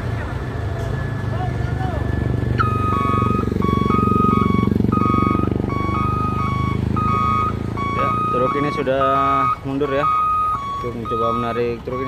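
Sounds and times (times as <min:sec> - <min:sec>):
diesel engine running: 0:00.0 - 0:12.0
truck reversing alarm beeping: 0:00.0 - 0:12.0.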